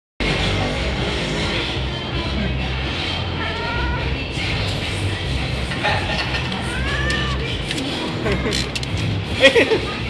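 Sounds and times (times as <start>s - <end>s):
music playing: 0.2s - 10.0s.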